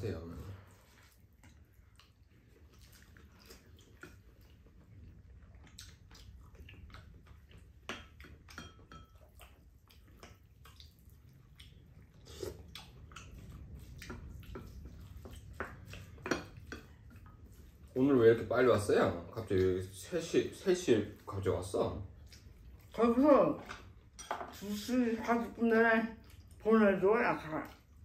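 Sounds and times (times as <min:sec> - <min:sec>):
chewing: 0:00.4 - 0:24.8, 0:26.1 - 0:26.7.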